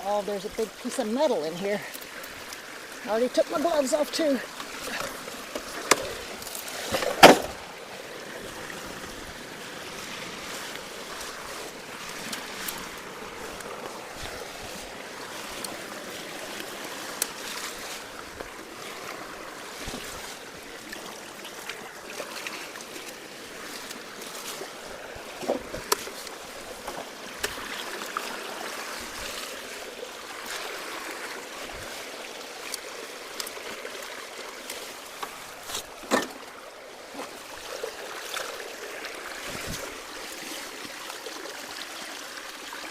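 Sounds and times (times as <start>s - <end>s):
floodwater rushing from culvert: 0.0s - 42.9s.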